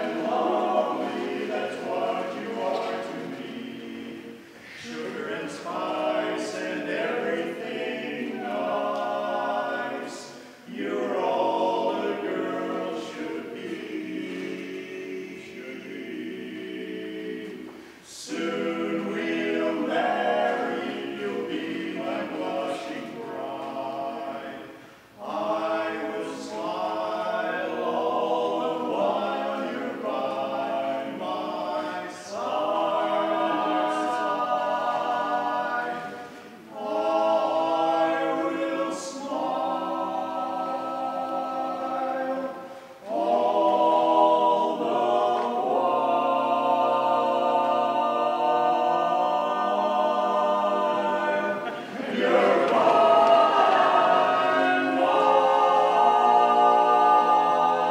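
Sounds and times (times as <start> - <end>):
male quartet singing a cappella: 0.0 - 57.9.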